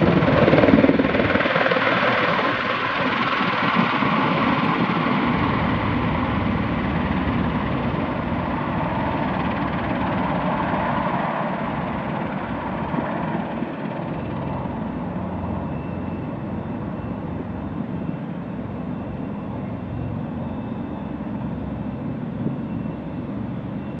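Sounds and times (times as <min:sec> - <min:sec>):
aircraft rotors droning: 0:00.0 - 0:24.0
faint high whine: 0:00.0 - 0:24.0.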